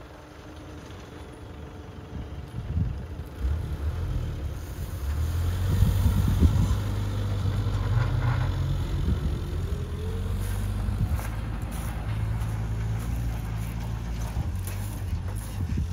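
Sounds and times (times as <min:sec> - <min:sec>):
engine running: 0:00.0 - 0:15.9.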